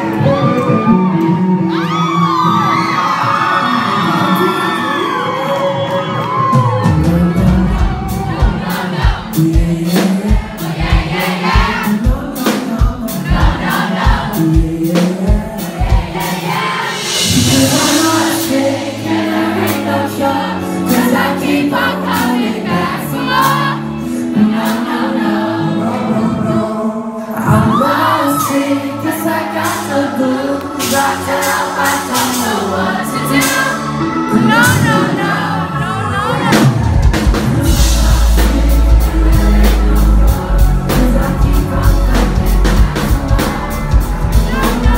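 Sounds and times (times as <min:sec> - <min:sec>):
live pop band and singer: 0:00.0 - 0:44.9.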